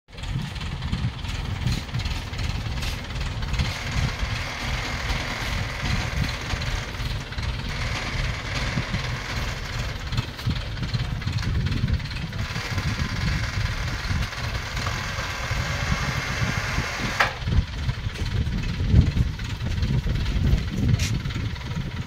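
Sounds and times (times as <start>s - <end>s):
diesel crane engine running: 0.1s - 22.0s.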